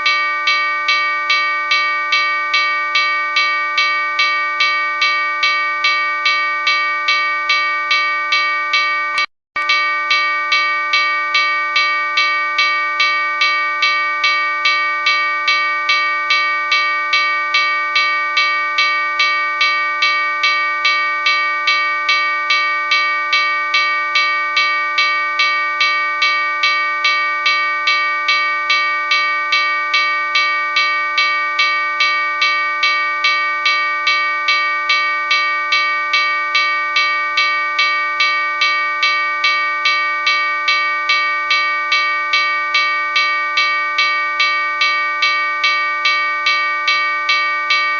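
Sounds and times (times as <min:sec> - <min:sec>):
locomotive bell ringing: 0:00.0 - 0:47.9.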